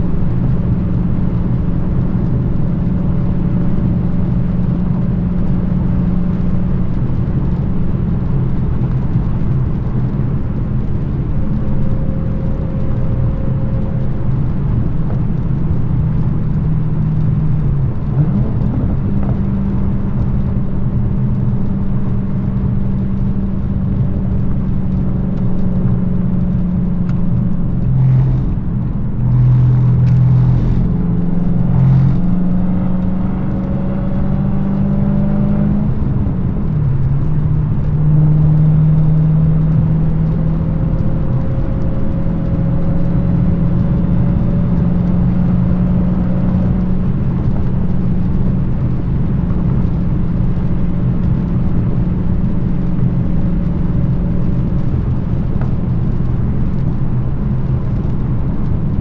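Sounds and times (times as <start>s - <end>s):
car engine revving: 0.0s - 59.0s
exhaust cracks: 0.0s - 59.0s.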